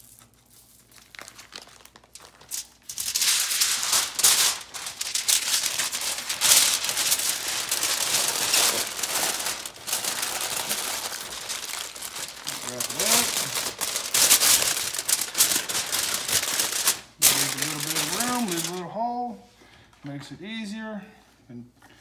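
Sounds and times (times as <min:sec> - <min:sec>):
aluminium foil crinkling: 0:00.0 - 0:18.8
sugar pattering from a bag: 0:00.0 - 0:18.8.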